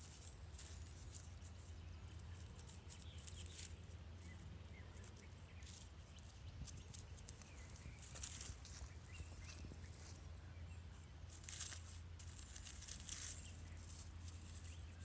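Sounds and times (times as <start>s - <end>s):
leaves rustling: 0.0s - 4.0s, 5.0s - 10.3s, 11.2s - 15.0s
low outdoor rumble: 0.0s - 15.0s.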